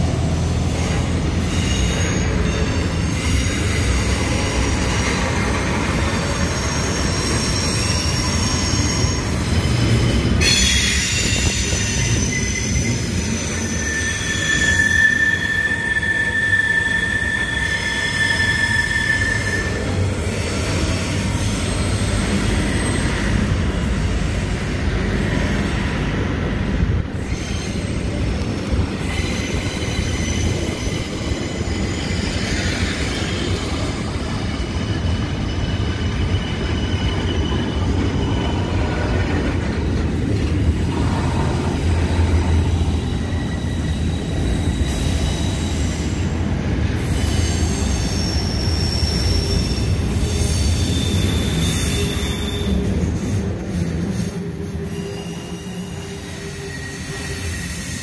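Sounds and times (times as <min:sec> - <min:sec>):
train wheels rumbling on rail: 0:00.0 - 0:58.0
high wheel squeal: 0:00.1 - 0:26.1, 0:27.1 - 0:40.0, 0:40.6 - 0:58.0.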